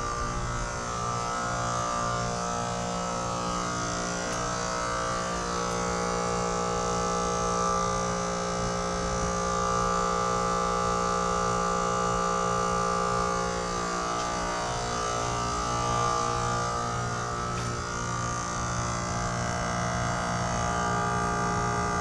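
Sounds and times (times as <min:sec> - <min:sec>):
heat pump compressor hum: 0:00.0 - 0:22.0.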